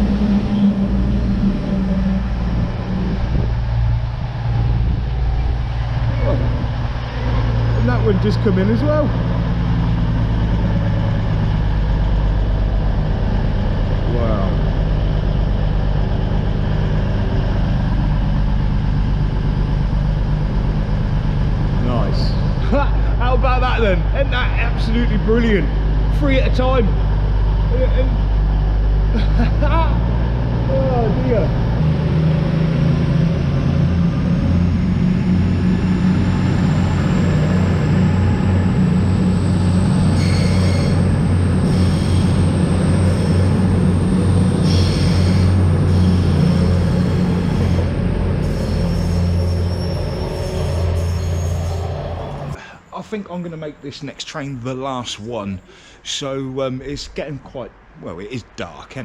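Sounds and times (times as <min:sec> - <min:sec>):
train wheels rumbling: 0:00.0 - 0:55.1
locomotive engine humming: 0:00.0 - 0:56.0.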